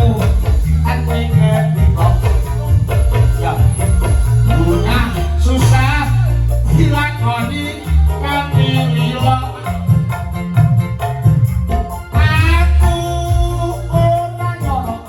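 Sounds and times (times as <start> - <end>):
heavy bass line: 0.0 - 15.0
live band music: 0.0 - 15.0
wavering vibrato melody: 0.0 - 15.0.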